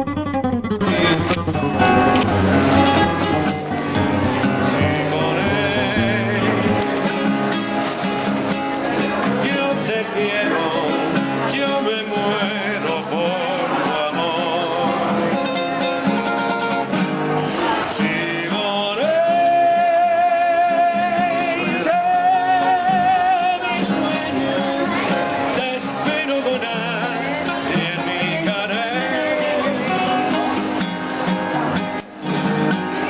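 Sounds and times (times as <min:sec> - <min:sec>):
guitar accompaniment: 0:00.0 - 0:33.0
person singing: 0:00.8 - 0:07.6, 0:09.0 - 0:15.9, 0:17.4 - 0:31.8.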